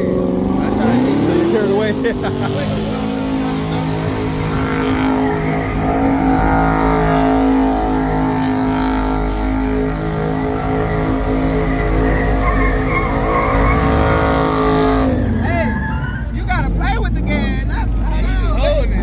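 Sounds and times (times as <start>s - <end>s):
car engine at high revs: 0.0s - 19.0s
tyres squealing: 0.5s - 18.8s.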